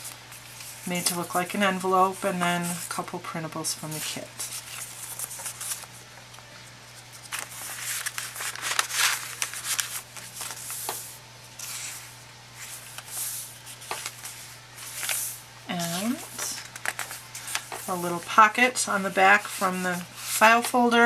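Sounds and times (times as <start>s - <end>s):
paper rustling and sliding: 0.0s - 0.9s, 3.8s - 18.3s, 18.9s - 21.0s.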